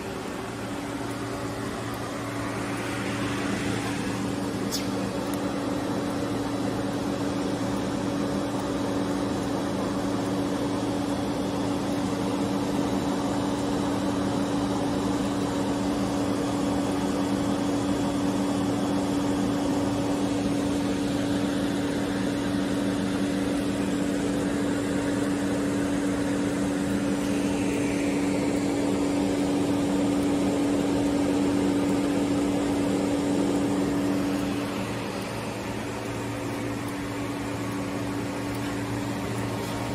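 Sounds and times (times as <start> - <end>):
cooling fans rushing: 0.0 - 39.9
electrical cabinet hum: 0.0 - 39.9.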